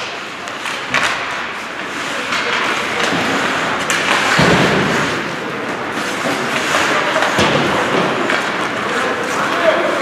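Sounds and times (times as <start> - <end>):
crowd noise echoing in a hall: 0.0 - 10.0.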